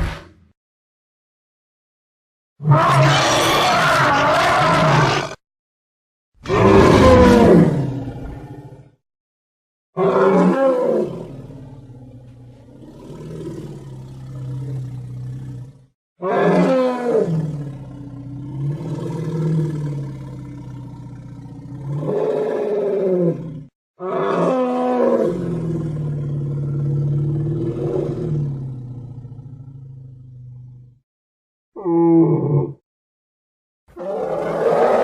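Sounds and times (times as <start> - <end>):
deep bellowing dinosaur roars: 2.6 - 5.4, 6.4 - 9.0, 10.0 - 31.0, 31.8 - 32.8, 34.0 - 35.0.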